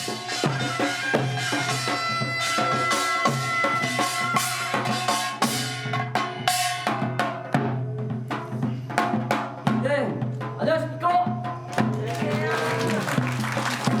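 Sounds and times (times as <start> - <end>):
drums and gongs in fast rhythm: 0.0 - 14.0.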